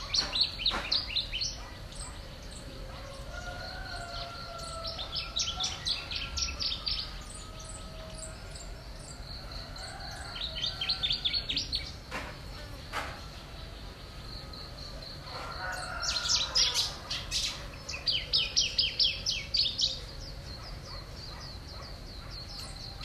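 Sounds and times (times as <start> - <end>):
high insect drone: 0.0 - 23.0
small birds chirping: 0.0 - 23.0.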